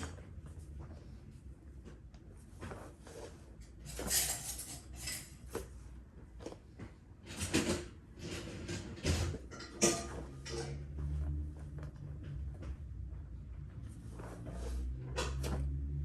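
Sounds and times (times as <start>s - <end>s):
clothing rustling: 0.1s - 7.2s, 9.4s - 16.0s.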